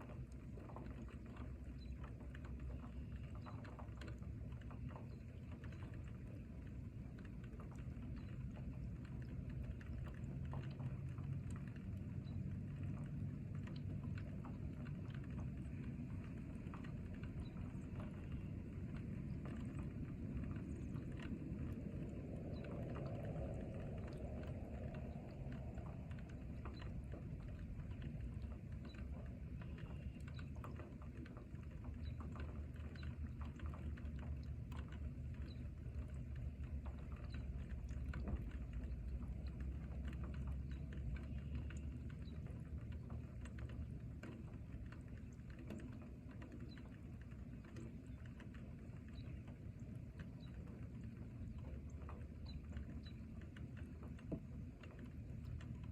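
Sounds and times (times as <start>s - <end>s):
steady rain pattering: 0.0s - 55.9s.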